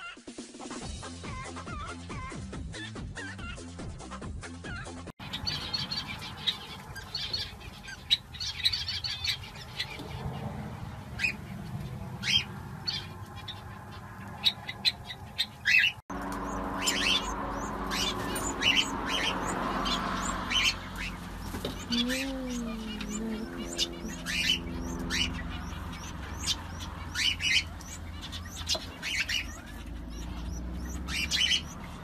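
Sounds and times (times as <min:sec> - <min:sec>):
small birds tweeting: 0:00.0 - 0:32.0.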